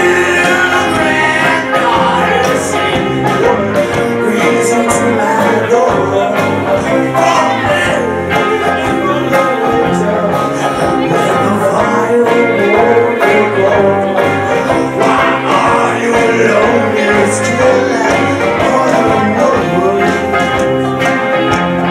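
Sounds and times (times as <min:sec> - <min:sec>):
live country-rock band: 0:00.0 - 0:21.9.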